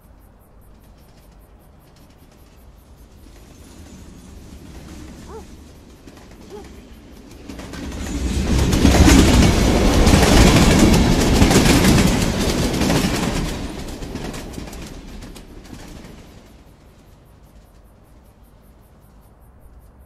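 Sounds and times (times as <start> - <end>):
fast train rumbling past: 0.0 - 19.8
rapid wheel clatter: 0.7 - 18.3.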